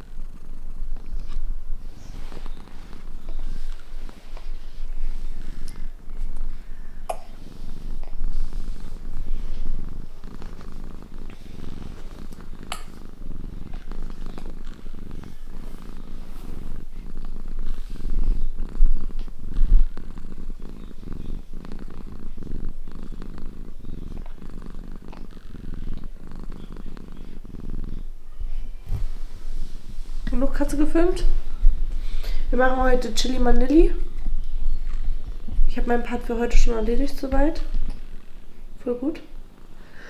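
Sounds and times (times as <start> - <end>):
cat purring: 0.0 - 40.0.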